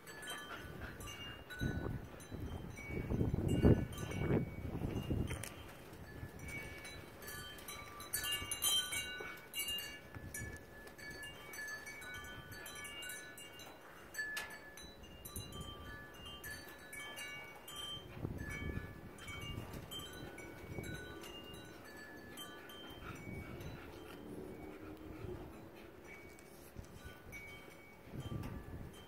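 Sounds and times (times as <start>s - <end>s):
wind chimes tinkling: 0.0s - 29.0s
wind rumble on microphone: 0.5s - 12.9s, 17.6s - 29.0s.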